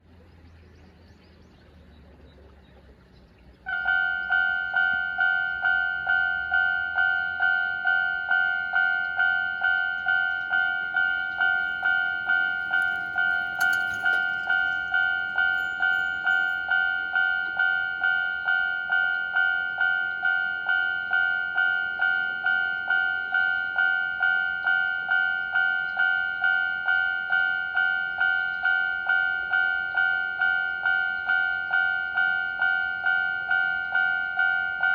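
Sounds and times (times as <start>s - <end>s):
level-crossing alarm dinging: 3.7s - 34.9s.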